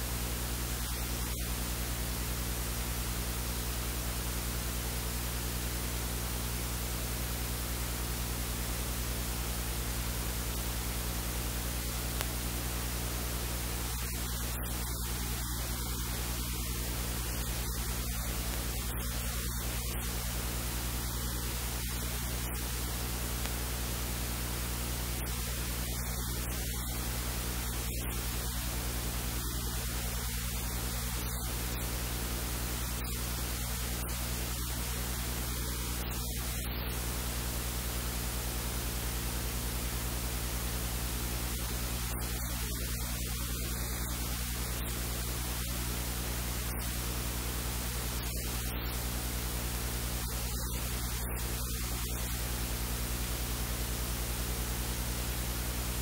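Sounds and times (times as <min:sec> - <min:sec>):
low electrical hum: 0:00.0 - 0:56.0
steady hiss: 0:08.0 - 0:56.0.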